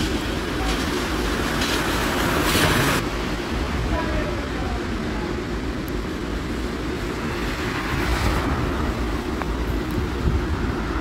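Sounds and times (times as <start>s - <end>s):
rain: 0.0s - 11.0s
wind buffeting microphone: 0.0s - 11.0s.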